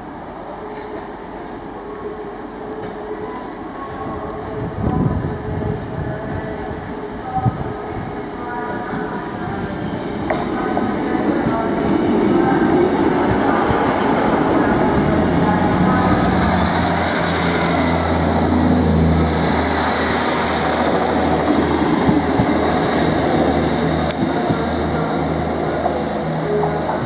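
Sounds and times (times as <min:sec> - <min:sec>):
diesel train engines droning: 0:00.0 - 0:27.0.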